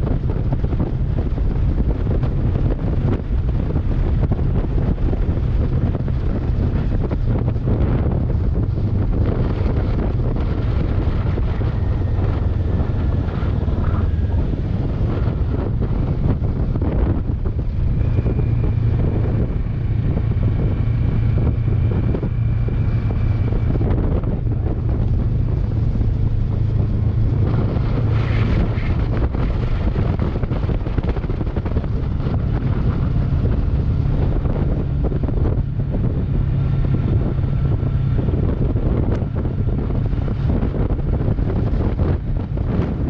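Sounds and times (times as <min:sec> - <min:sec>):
motorcycle engine running: 0:00.0 - 0:43.0
wind buffeting microphone: 0:00.0 - 0:43.0.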